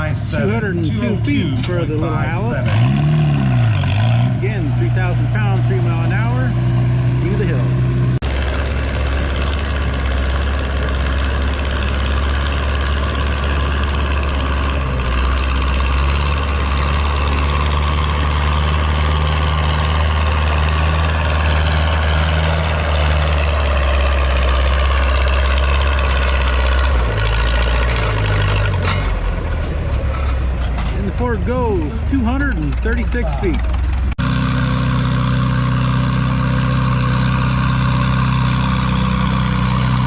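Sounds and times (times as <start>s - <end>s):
tractor engine running under load: 0.0s - 40.0s.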